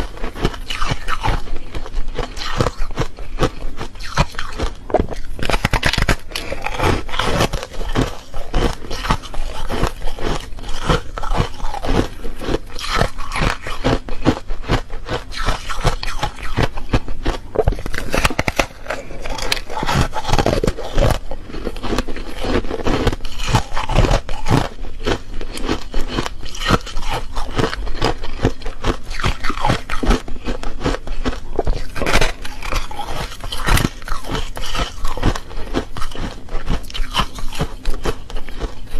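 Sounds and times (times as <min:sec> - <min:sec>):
crunching frozen foam ice: 0:00.0 - 0:38.9.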